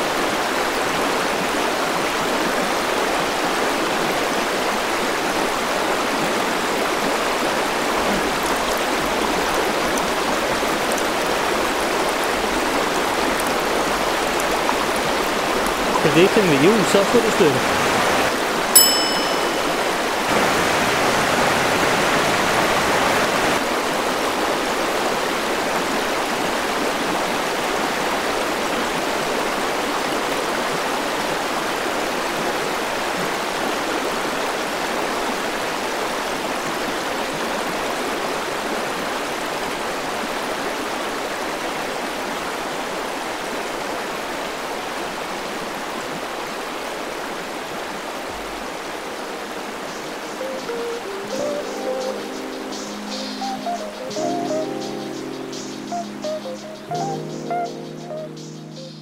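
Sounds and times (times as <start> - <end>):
river water rushing over stones: 0.0 - 57.3.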